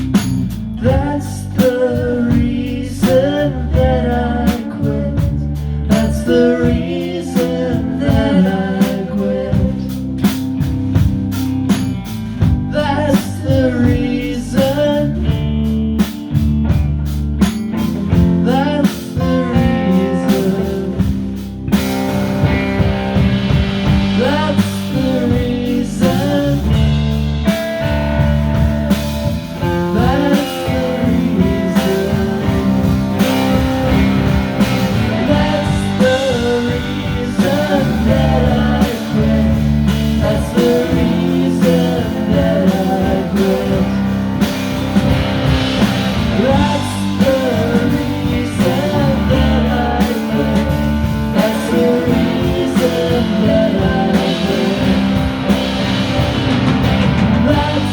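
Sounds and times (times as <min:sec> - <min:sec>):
rock band playing live: 0:00.0 - 0:57.9.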